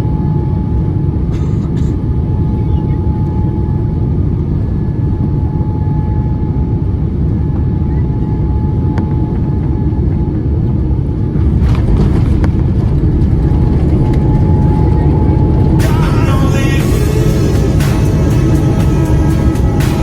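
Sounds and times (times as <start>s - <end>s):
airplane cabin low rumble: 0.0s - 20.0s.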